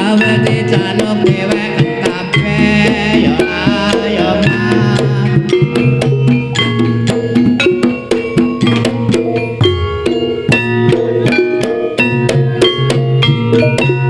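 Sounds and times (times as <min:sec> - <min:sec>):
ringing pitched percussion: 0:00.0 - 0:14.0
sharp drum strokes: 0:00.0 - 0:14.0
heavy bass line: 0:00.4 - 0:14.0.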